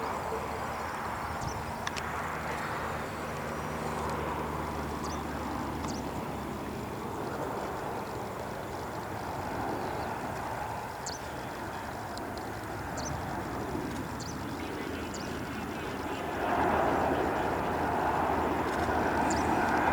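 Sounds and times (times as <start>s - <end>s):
distant jet engines rumbling: 0.0s - 19.9s.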